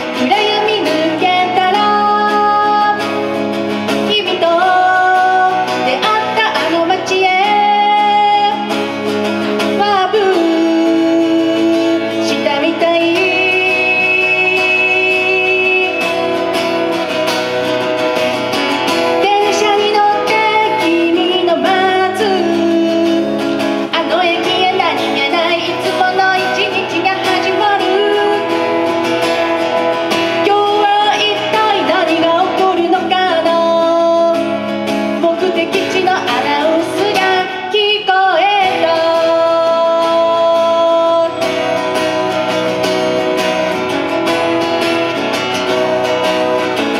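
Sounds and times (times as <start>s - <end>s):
woman singing: 0.0s - 44.9s
strummed acoustic guitar: 0.0s - 46.9s.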